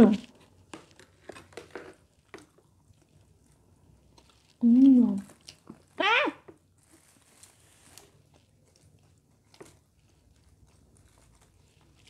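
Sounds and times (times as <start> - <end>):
chewing rice: 0.0 - 12.0.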